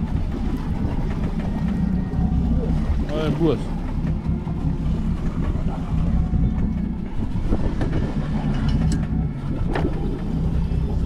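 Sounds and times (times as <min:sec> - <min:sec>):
boat engine running: 0:00.0 - 0:11.0
wind buffeting microphone: 0:00.0 - 0:11.0.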